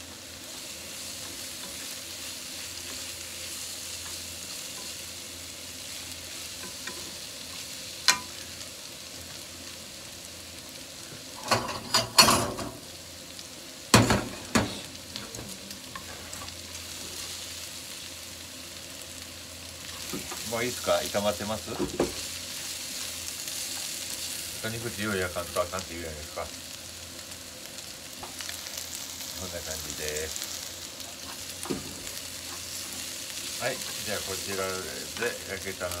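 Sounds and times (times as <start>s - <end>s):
meat sizzling in a frying pan: 0.0s - 36.0s.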